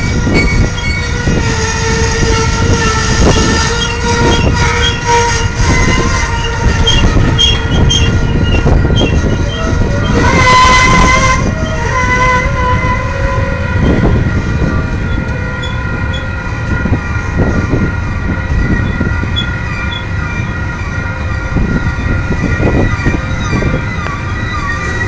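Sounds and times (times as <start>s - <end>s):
train cars knocking: 0.0s - 25.0s
train wheels rumbling on rail: 0.0s - 25.0s
wheel flanges squealing: 0.0s - 25.0s.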